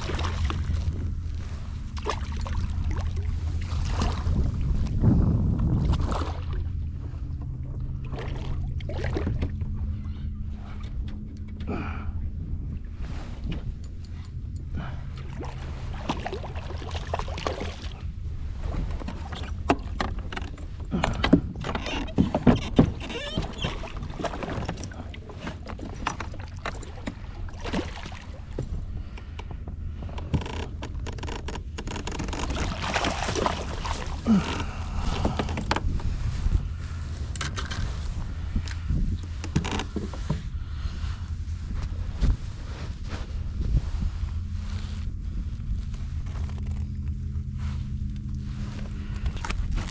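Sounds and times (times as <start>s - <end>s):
low rumble: 0.0s - 49.9s.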